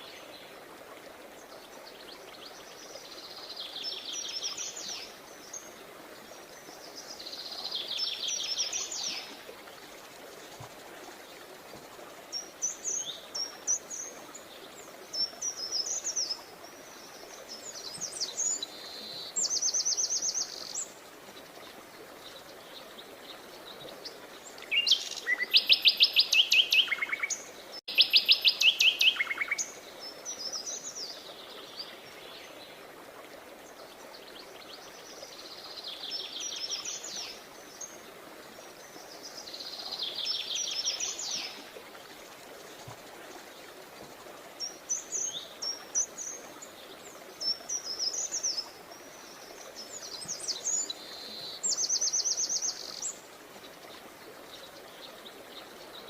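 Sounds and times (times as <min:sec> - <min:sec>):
faint background hiss: 0:00.0 - 0:56.0
songbirds trilling and chirping: 0:01.3 - 0:56.0.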